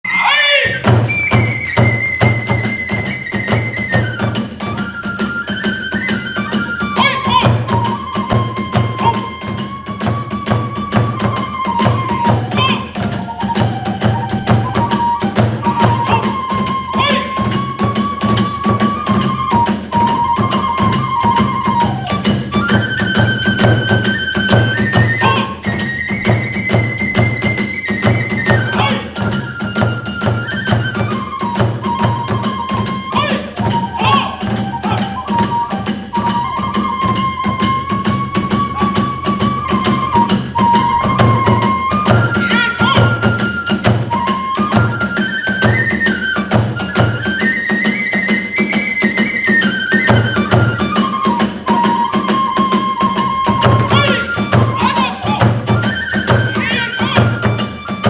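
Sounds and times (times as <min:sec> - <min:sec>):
high bamboo flute melody: 0:00.0 - 0:58.0
steady drum beat: 0:00.7 - 0:47.3, 0:49.3 - 0:58.0.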